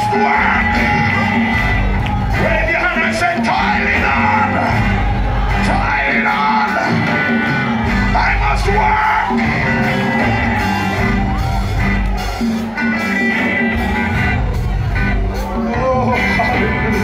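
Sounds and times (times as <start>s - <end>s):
church praise music: 0.0s - 17.0s
congregation singing and whooping: 0.0s - 17.0s.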